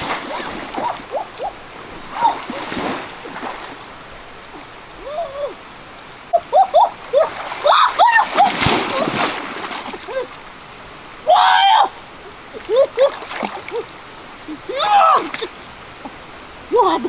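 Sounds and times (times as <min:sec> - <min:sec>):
water splashing from wading: 0:00.0 - 0:05.2, 0:06.2 - 0:11.4, 0:12.0 - 0:16.7
river rushing: 0:00.0 - 0:17.0.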